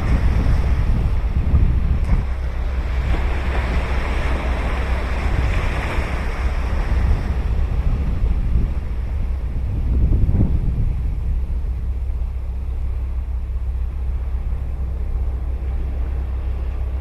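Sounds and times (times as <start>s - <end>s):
ocean surf breaking: 0.0s - 17.0s
wind rumble on microphone: 0.0s - 17.0s.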